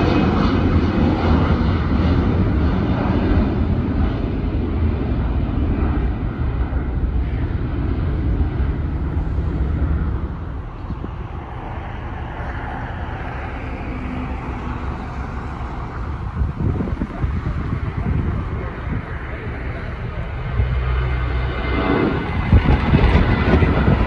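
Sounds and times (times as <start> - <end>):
distant jet taking off: 0.0 - 24.0
jet engines taking off: 0.0 - 24.0.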